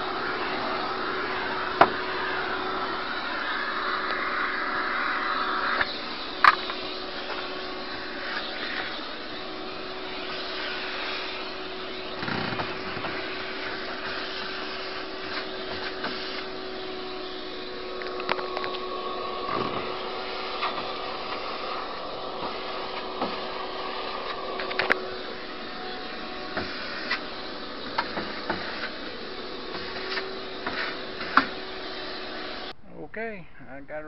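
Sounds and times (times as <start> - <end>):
shop vac humming: 0.0 - 32.8.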